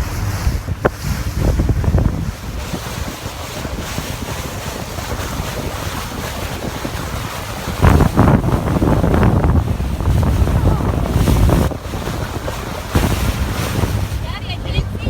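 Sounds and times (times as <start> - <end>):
water rushing past: 0.0 - 15.0
wind buffeting microphone: 0.0 - 15.0.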